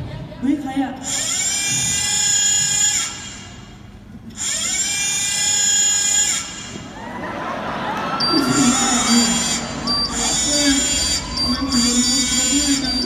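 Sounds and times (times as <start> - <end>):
electric motor whirring: 1.0 - 7.0, 8.2 - 13.0.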